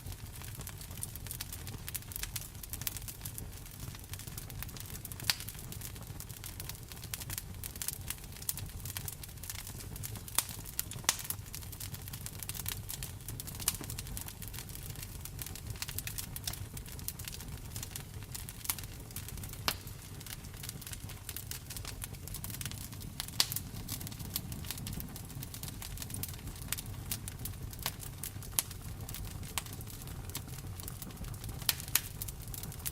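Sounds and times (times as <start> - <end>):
low rumble of flames: 0.0 - 32.9
wood fire crackling and popping: 0.0 - 32.9.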